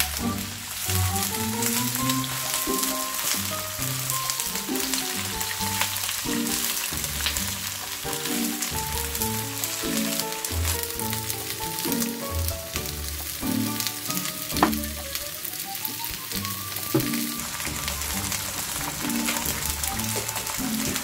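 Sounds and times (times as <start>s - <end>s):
light background music: 0.0s - 21.0s
vegetables sizzling in a wok: 0.0s - 21.0s.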